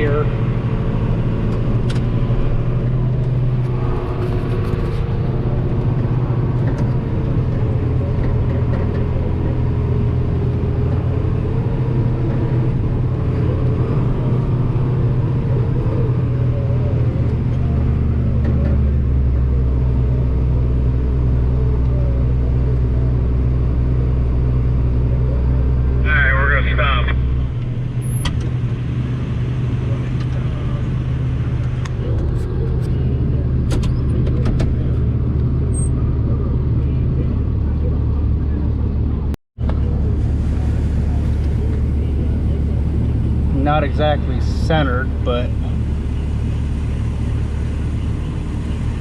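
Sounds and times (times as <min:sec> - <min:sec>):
deeper drone: 0:00.0 - 0:49.0
diesel engine running under load: 0:00.0 - 0:49.0.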